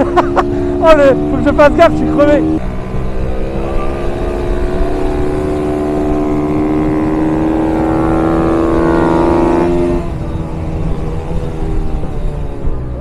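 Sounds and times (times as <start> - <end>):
small engine at high revs: 0.0 - 10.9.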